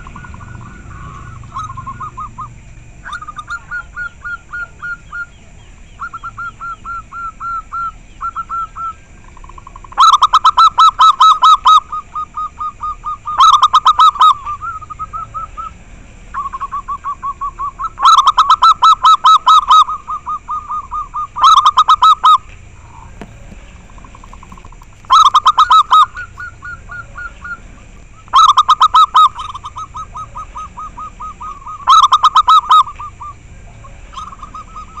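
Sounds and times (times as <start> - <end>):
doves cooing in trills: 0.0 - 35.0.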